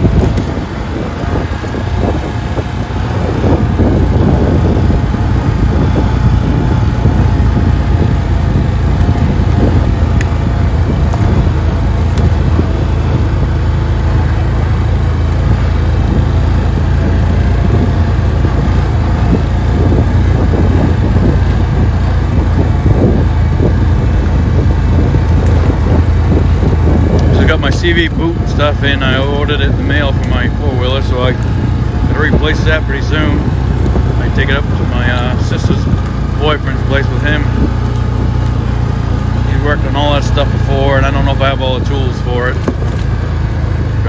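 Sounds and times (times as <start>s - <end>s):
atv engine running: 0.0s - 44.0s.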